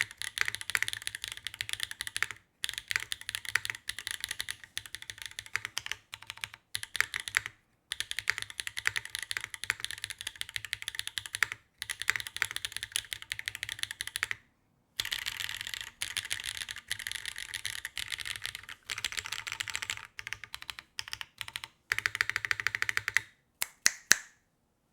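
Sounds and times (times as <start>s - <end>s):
fast typing on mechanical keyboard: 0.0s - 14.4s, 15.0s - 23.3s.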